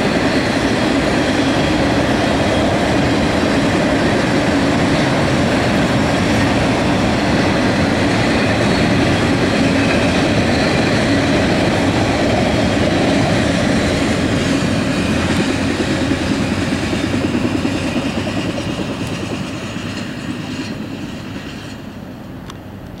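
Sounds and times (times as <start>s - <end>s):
steel wheels on rails: 0.0s - 23.0s.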